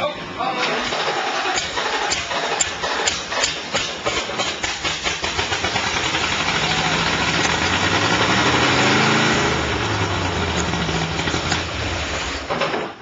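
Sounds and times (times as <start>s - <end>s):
loud engine running without exhaust: 0.9s - 12.4s.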